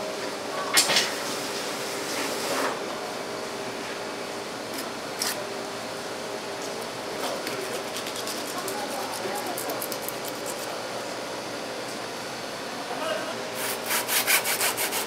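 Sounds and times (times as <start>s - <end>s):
steady fan-like hum: 0.0s - 15.0s.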